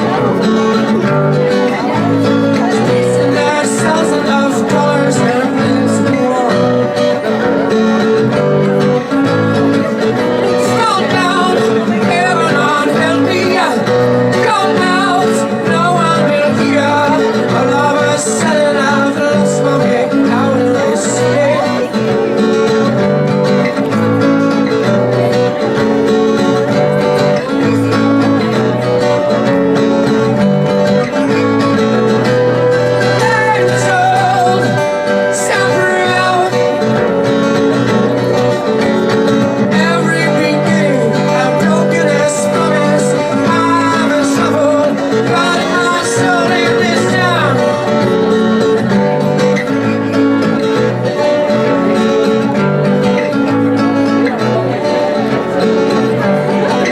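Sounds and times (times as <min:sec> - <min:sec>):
plucked strings playing chords: 0:00.0 - 0:56.9.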